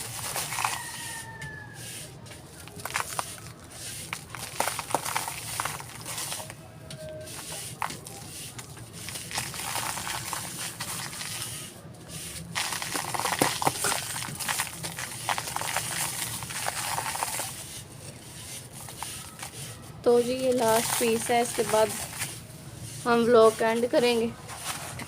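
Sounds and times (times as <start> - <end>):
dry material crumbled by hand: 0.0 - 1.7, 2.4 - 11.7, 12.3 - 22.4.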